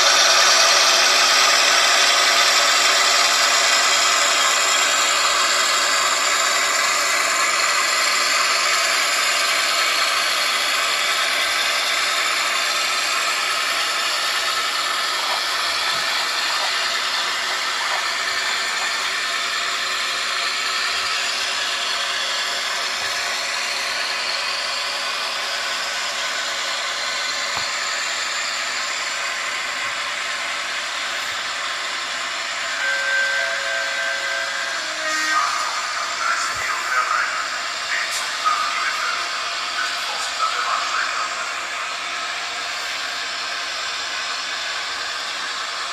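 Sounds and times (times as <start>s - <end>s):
model train electric whirr: 0.0s - 45.9s.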